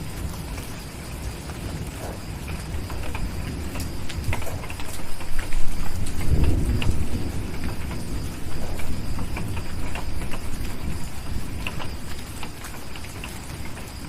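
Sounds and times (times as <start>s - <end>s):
distant thunder rumble: 0.0s - 14.0s
steady rain: 0.0s - 14.0s.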